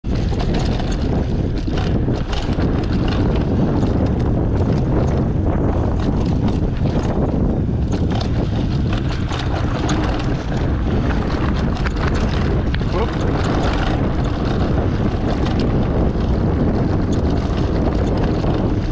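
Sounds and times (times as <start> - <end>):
bike clicks and rattles: 0.0 - 18.9
wind on microphone: 0.0 - 18.9.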